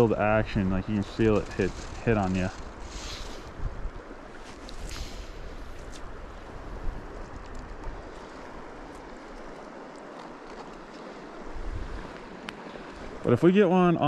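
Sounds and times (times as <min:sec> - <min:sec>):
wind buffeting microphone: 0:00.0 - 0:09.8, 0:11.2 - 0:13.4
creek flowing: 0:00.0 - 0:14.0.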